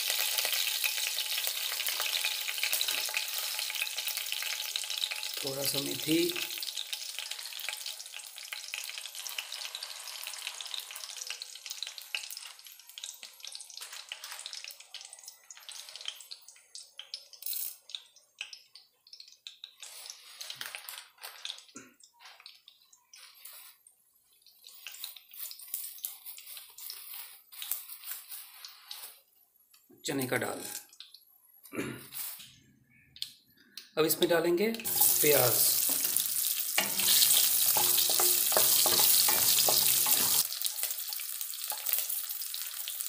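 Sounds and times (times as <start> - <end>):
hot oil sizzling and crackling: 0.0 - 29.4, 34.0 - 43.0.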